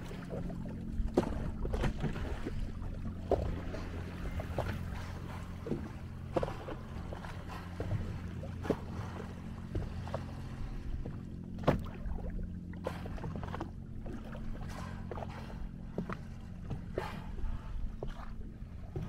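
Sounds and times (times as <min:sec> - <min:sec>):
motorboat engine humming: 0:00.0 - 0:19.0
water splashing against hull: 0:00.0 - 0:19.0.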